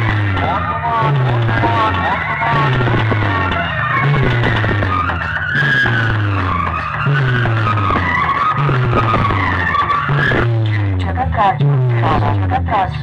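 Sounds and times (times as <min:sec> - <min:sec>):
dance track over loudspeakers: 0:00.0 - 0:13.0.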